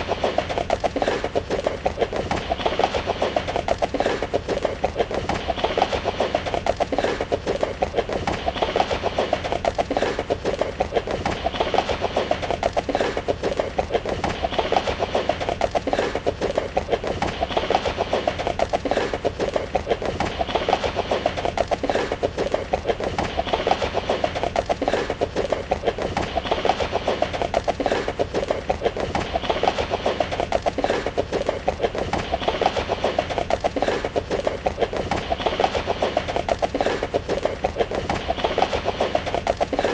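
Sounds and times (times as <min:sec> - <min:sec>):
horse hooves running: 0:00.0 - 0:39.9.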